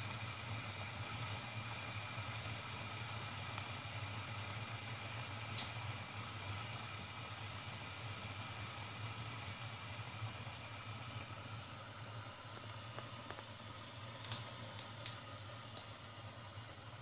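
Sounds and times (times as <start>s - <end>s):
espresso machine humming and hissing: 0.0s - 17.0s.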